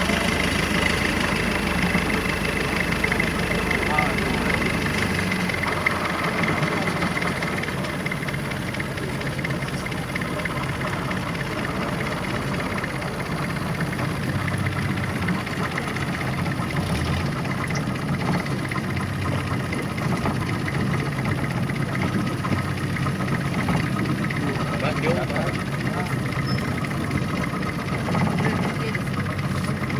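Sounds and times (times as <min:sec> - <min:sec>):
boat engine droning: 0:00.0 - 0:29.9.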